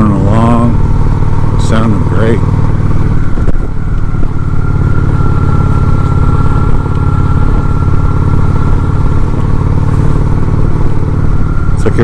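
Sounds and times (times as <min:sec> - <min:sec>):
motorcycle engine cruising: 0:00.0 - 0:12.0
thin steady high tone: 0:00.0 - 0:12.0.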